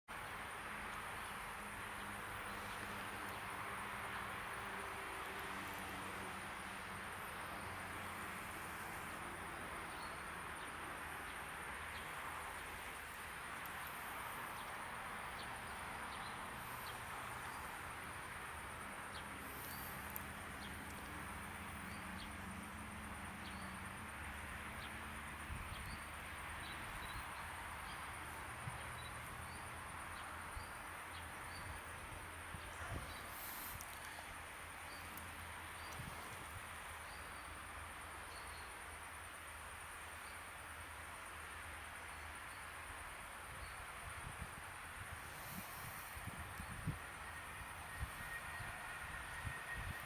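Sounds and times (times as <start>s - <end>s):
insects trilling: 0.2s - 50.0s.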